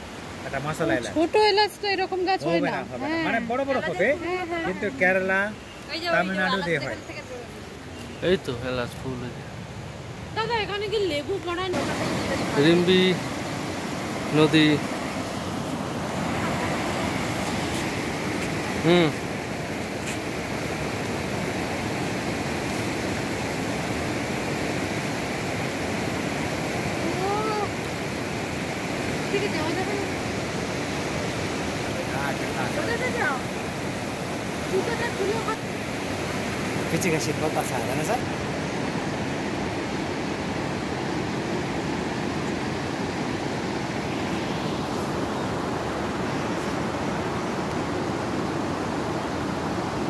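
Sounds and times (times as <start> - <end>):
river rushing over rocks: 8.5 - 50.0.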